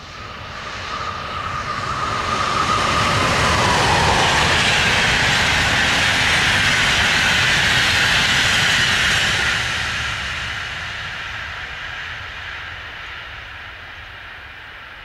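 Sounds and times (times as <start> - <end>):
electric locomotive whine: 0.0 - 15.0
train wheels rushing on rail: 0.0 - 15.0.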